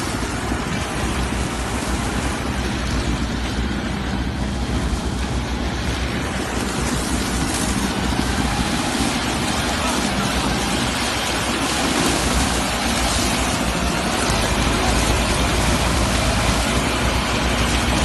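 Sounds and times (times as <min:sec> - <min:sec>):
harvester engine drone: 0:00.0 - 0:18.0
machine rushing noise: 0:00.0 - 0:18.0.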